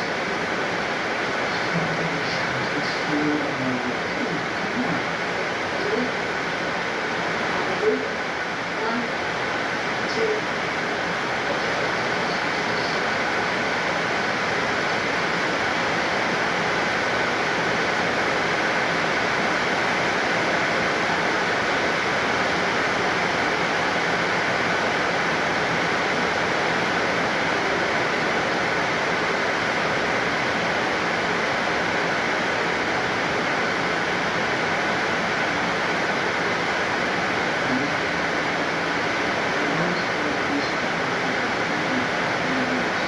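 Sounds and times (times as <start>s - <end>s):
faint steady whine: 0.0s - 43.0s
steady rushing hiss: 0.0s - 43.0s.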